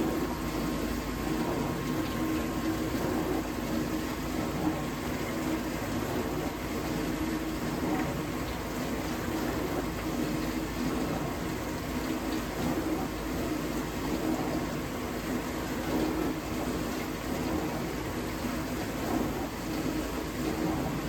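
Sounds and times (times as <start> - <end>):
dishwasher pump motor hum: 0.0 - 21.0.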